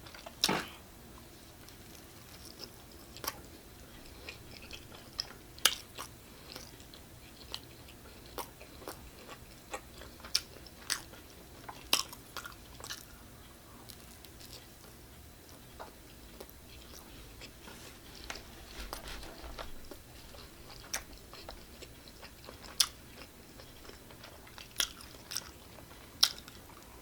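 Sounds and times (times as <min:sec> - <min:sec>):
person chewing food: 0:01.6 - 0:27.0.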